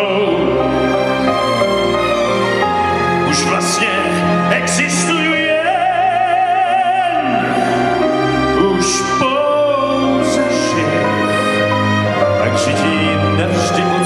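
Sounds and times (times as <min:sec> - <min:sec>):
man singing into a microphone: 0:00.0 - 0:01.0, 0:03.2 - 0:14.0
instrumental accompaniment: 0:00.0 - 0:14.0.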